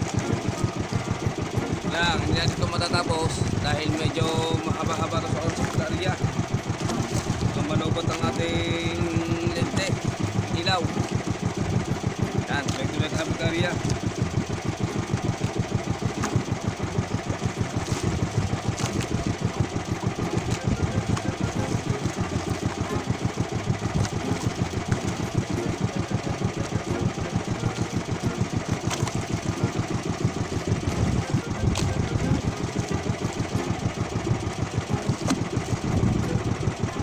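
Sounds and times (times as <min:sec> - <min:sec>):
boat engine idling: 0:00.0 - 0:37.0.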